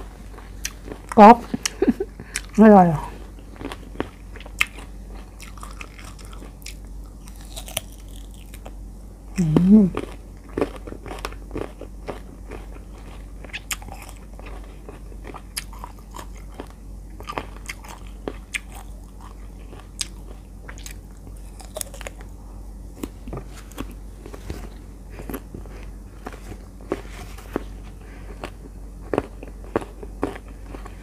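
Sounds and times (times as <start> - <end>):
chewing crunchy mango: 0.0 - 31.0.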